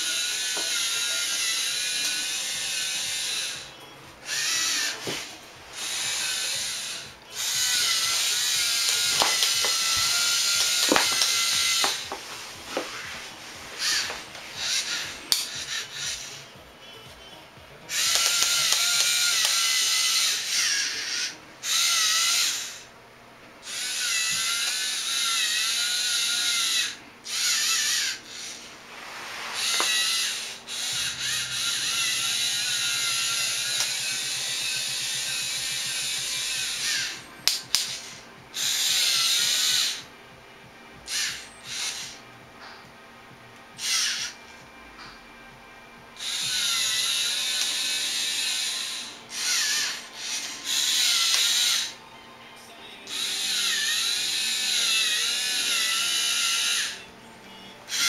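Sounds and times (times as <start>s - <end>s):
toy truck gear whine: 0.0s - 16.6s, 17.8s - 22.9s, 23.6s - 28.8s, 29.4s - 40.1s, 41.0s - 42.8s, 43.8s - 45.2s, 46.2s - 52.0s, 53.0s - 58.0s.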